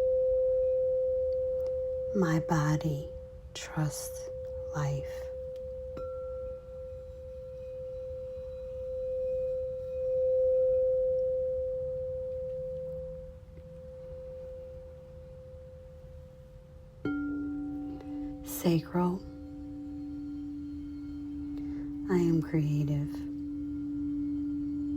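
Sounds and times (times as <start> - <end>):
crystal singing bowl ringing: 0.0 - 24.9.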